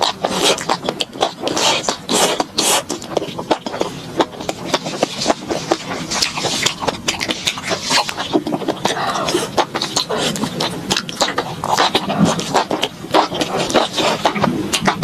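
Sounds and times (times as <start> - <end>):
chewing crunchy fried food: 0.0 - 15.0
wet mouth clicks: 0.0 - 15.0.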